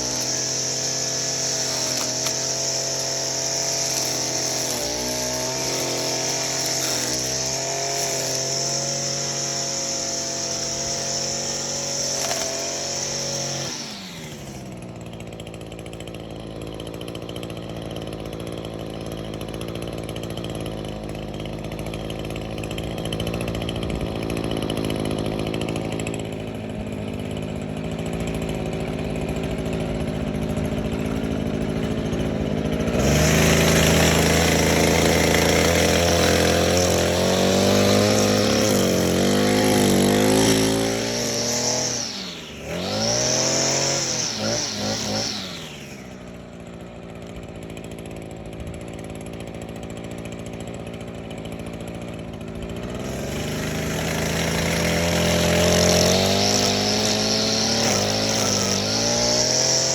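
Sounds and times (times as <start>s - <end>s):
string trimmer engine running: 0.0s - 59.9s.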